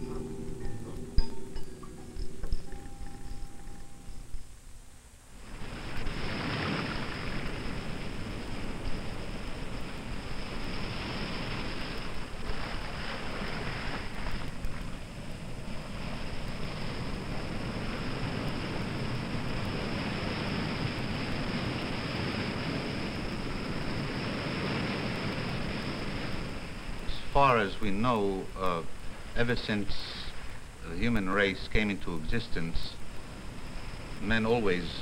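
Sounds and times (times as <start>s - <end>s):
sea surf on rocky shore: 0.0s - 4.2s, 5.3s - 35.0s
thin steady hiss: 0.0s - 35.0s.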